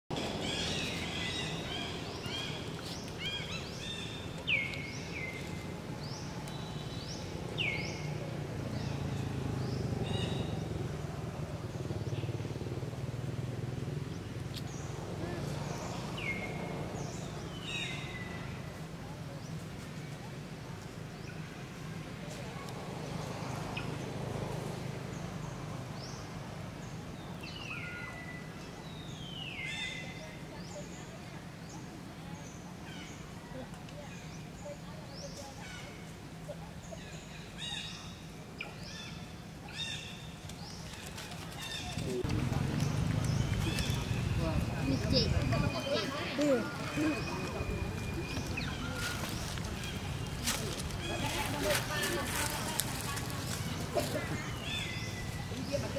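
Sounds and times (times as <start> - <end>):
wild birds chirping and calling: 0.1 - 13.0, 23.0 - 55.9.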